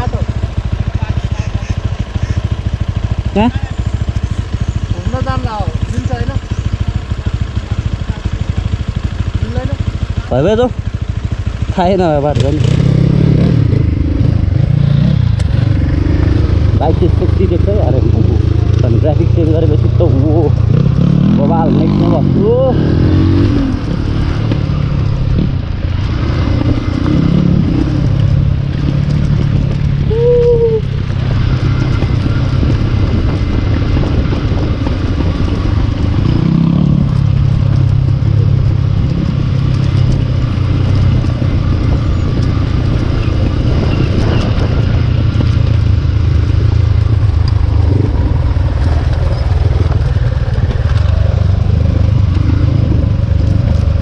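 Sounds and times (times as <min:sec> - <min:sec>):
dirt bike engine revving: 0:00.0 - 0:30.1, 0:30.8 - 0:54.0.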